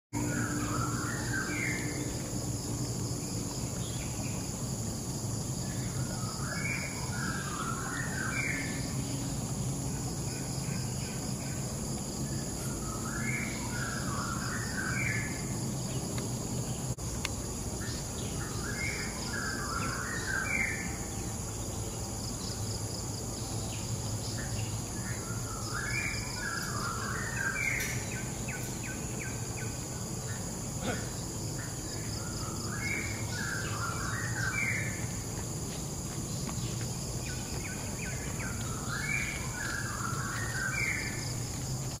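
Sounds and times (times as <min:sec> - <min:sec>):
high insect drone: 0:00.2 - 0:42.0.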